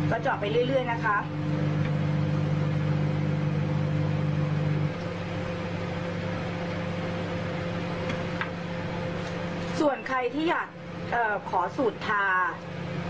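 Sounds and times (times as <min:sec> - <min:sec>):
machine hum with low tones: 0:00.0 - 0:13.0.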